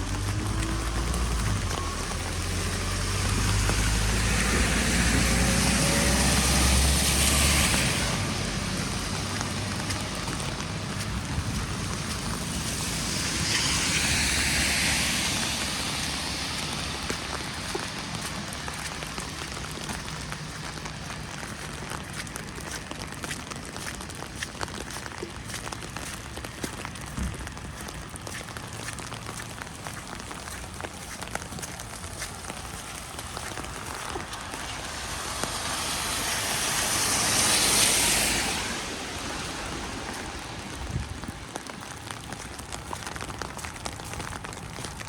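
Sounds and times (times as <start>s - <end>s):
cars passing on wet road: 0.0s - 45.0s.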